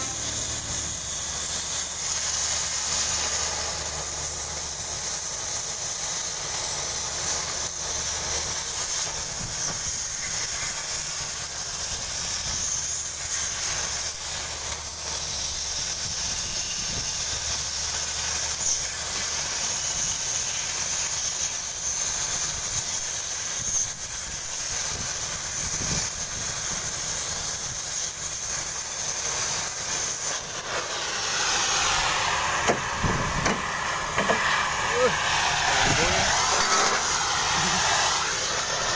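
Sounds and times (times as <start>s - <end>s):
cutting torch hissing: 0.0s - 38.9s.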